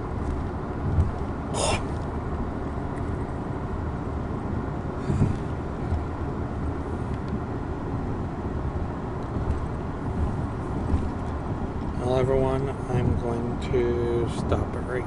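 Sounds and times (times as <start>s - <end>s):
engine and road noise in cabin: 0.0s - 15.0s.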